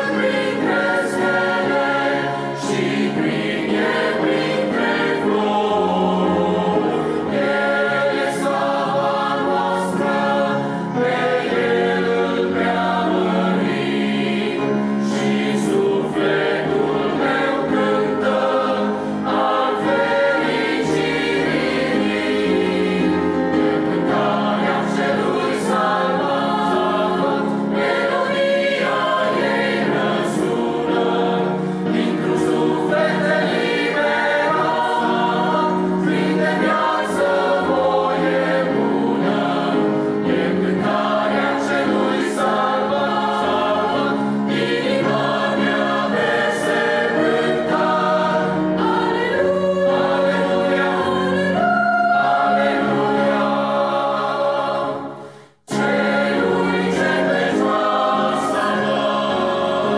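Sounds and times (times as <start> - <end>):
mixed choir singing a hymn: 0.0 - 59.9
piano: 0.0 - 59.9.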